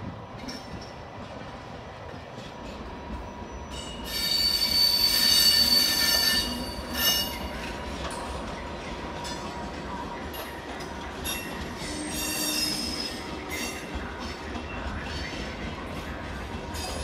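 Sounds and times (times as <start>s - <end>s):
train wheels squealing on rails: 0.0s - 17.0s.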